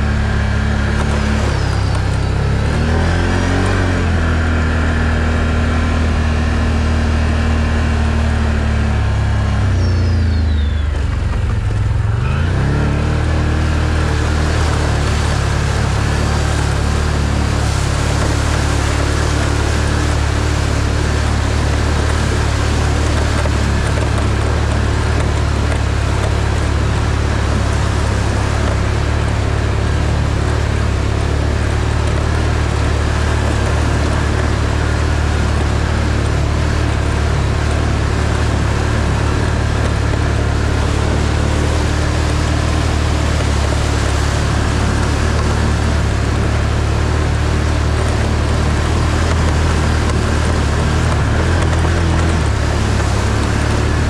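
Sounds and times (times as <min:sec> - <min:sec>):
steady rushing noise: 0:00.0 - 0:54.0
vehicle engine running: 0:00.0 - 0:54.0.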